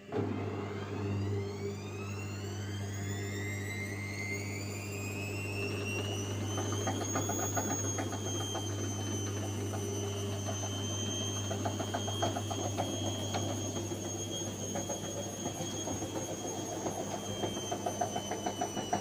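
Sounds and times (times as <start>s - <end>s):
washing machine motor whine: 0.0s - 19.0s.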